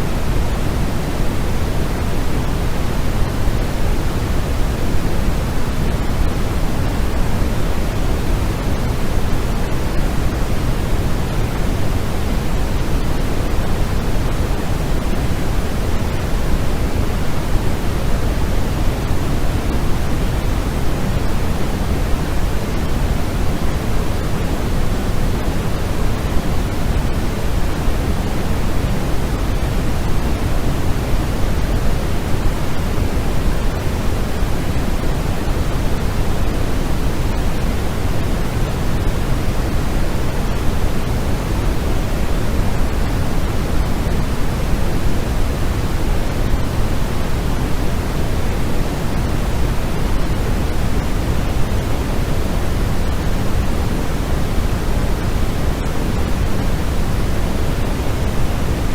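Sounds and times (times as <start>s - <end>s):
steady white noise hiss: 0.0s - 58.9s.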